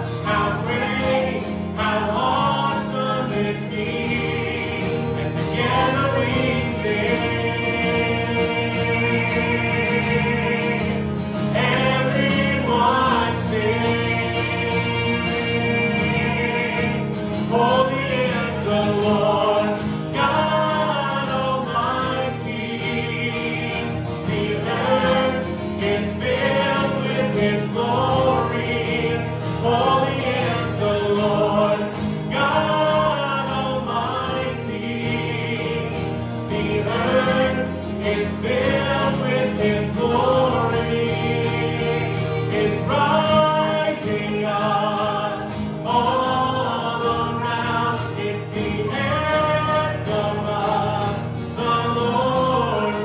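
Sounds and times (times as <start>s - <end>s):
acoustic guitar: 0.0s - 53.0s
man and woman singing: 0.0s - 53.0s.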